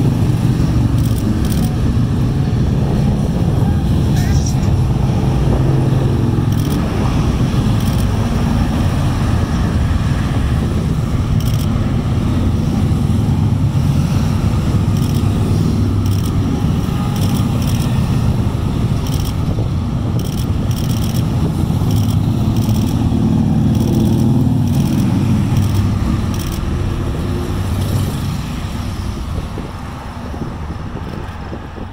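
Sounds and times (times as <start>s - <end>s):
cars passing: 0.0s - 31.9s
motorcycles passing: 0.0s - 31.9s.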